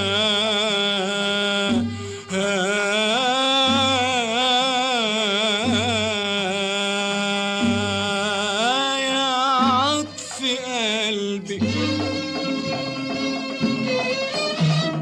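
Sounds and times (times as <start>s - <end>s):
old song recording: 0.0s - 15.0s.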